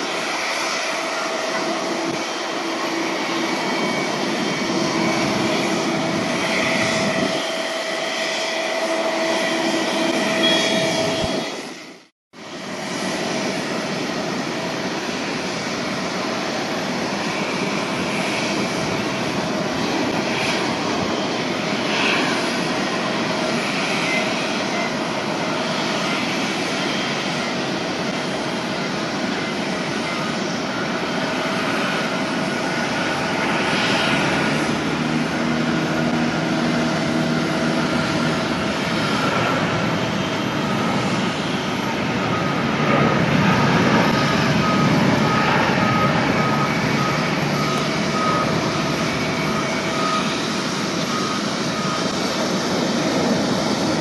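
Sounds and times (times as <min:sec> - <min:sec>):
jet engines at take-off power: 0:00.0 - 0:54.0.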